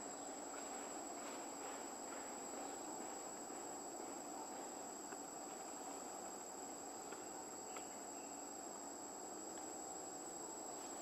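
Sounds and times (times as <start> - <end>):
insect chorus: 0.0 - 11.0.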